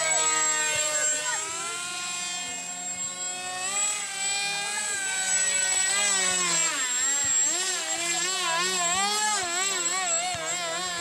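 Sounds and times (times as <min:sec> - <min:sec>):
model jet motor whine: 0:00.0 - 0:11.0.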